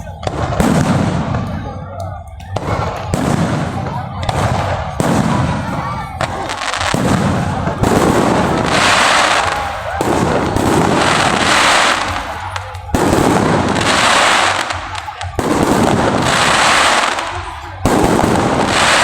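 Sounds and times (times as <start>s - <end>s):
firework bangs: 0.0s - 1.8s, 2.5s - 19.0s
firework crackling: 0.0s - 19.0s.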